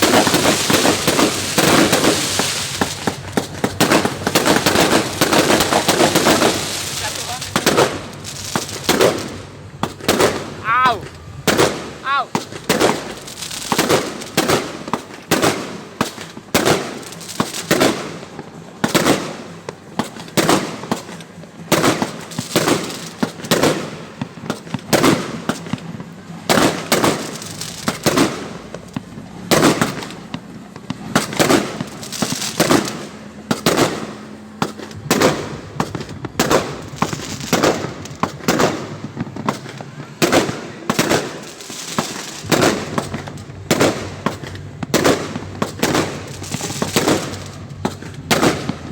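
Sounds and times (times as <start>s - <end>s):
fireworks banging: 0.0s - 48.9s.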